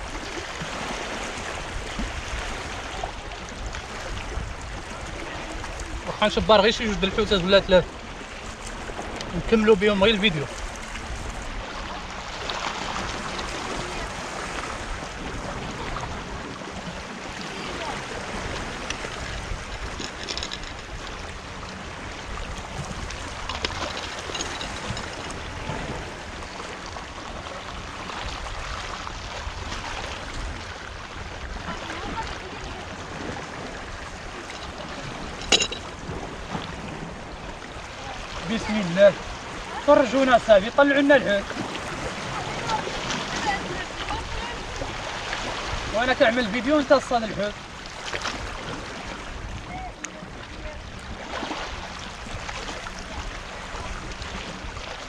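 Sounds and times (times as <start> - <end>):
sea surf washing ashore: 0.0 - 55.0.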